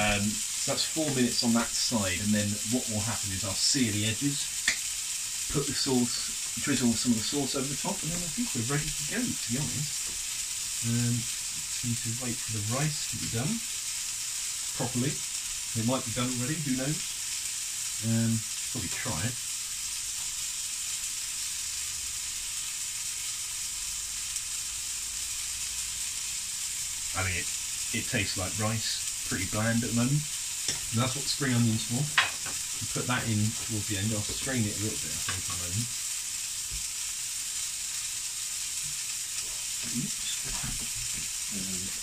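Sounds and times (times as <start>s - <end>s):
meat sizzling in a frying pan: 0.0s - 42.0s.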